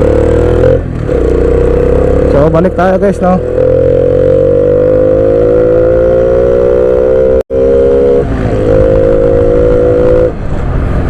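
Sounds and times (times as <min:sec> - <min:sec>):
motorcycle engine accelerating: 0:00.0 - 0:10.5.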